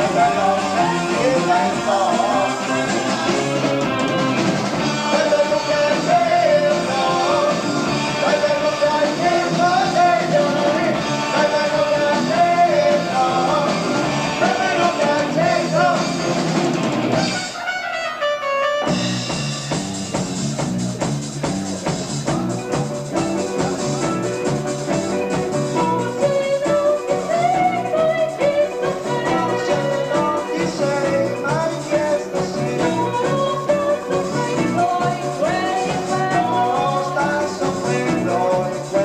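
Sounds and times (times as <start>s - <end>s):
live progressive rock band: 0.0s - 39.0s.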